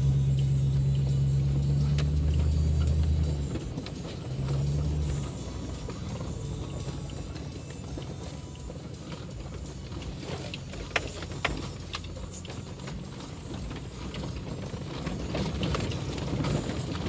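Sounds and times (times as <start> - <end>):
engine and road rumble: 0.0 - 17.0
clicks and rattles in cab: 1.8 - 17.0.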